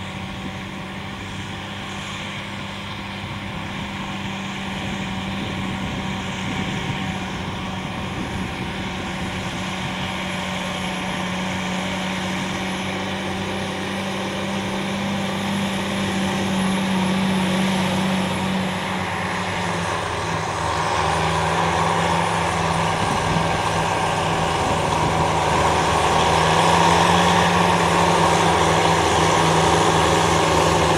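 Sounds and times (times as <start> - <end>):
tractor engine running under load: 0.0 - 30.9.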